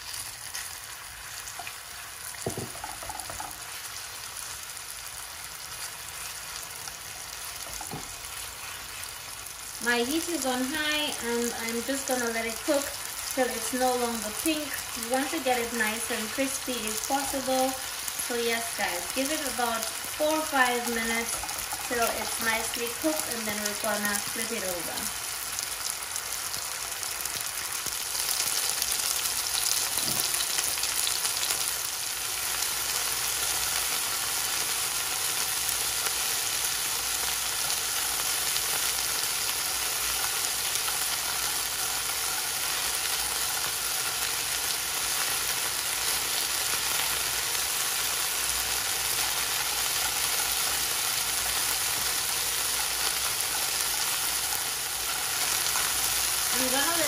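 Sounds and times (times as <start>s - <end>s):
chicken frying in oil: 0.0s - 57.0s.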